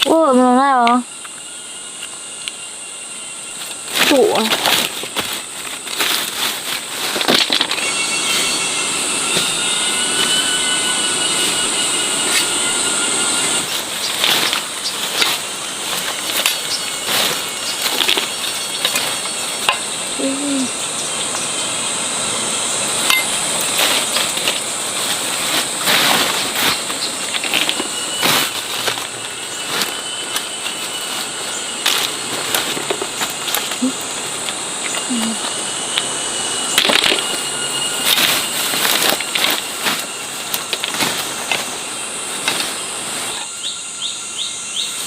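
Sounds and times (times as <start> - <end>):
high insect drone: 0.0 - 45.0.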